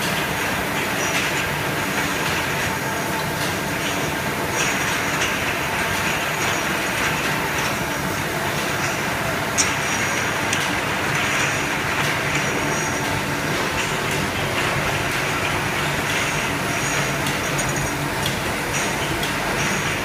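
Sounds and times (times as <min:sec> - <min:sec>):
bottle washing machine humming: 0:00.0 - 0:20.0.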